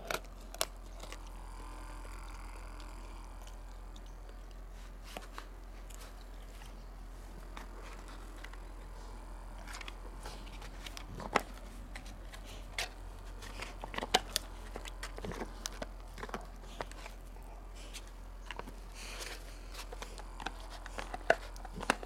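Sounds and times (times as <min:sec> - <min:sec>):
dog chewing crunchy chew: 0:00.0 - 0:22.0.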